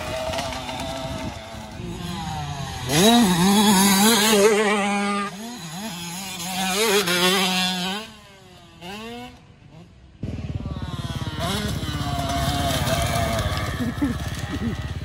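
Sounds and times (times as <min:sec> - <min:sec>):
two-stroke motocross bike revving: 0:00.0 - 0:15.0.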